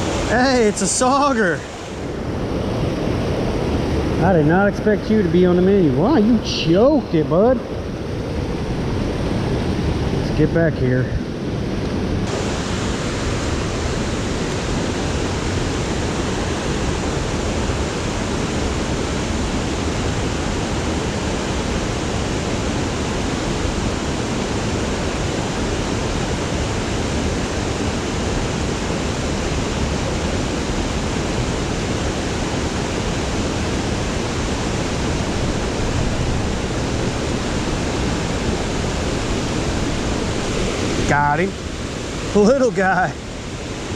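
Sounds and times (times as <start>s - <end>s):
creek water flowing: 0.0s - 43.9s.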